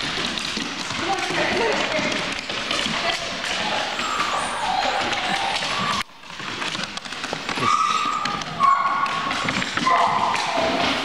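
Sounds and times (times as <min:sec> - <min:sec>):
footsteps on concrete floor: 0:00.0 - 0:11.0.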